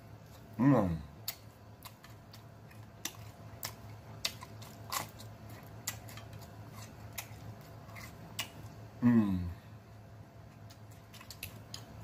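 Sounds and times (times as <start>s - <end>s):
faint low hum: 0.0s - 12.0s
person chewing food: 0.1s - 9.0s, 10.0s - 12.0s.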